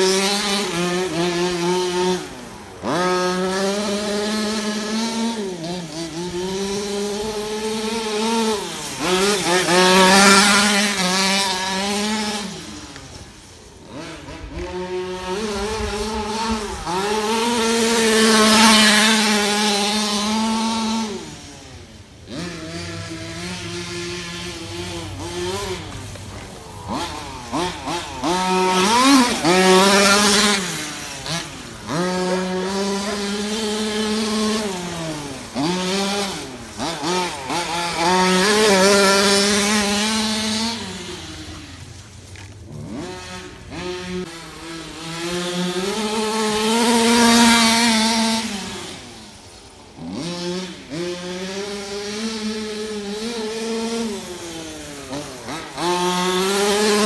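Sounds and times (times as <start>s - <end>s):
small two-stroke engine revving: 0.0s - 57.0s.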